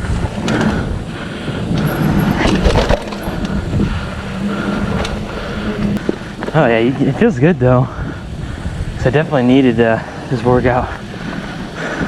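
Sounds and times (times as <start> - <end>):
bike rattling: 0.0 - 12.0
bike tyres on dirt trail: 0.0 - 12.0.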